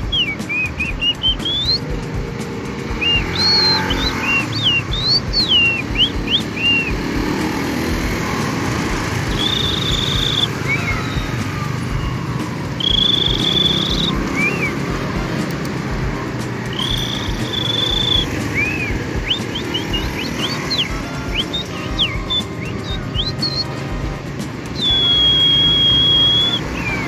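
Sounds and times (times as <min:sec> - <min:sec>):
man whistling birdsong imitations: 0:00.0 - 0:27.0.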